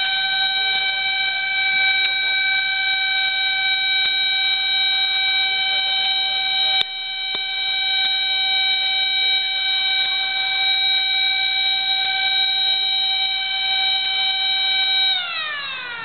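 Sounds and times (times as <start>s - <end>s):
siren-like alarm tone: 0.0s - 16.0s.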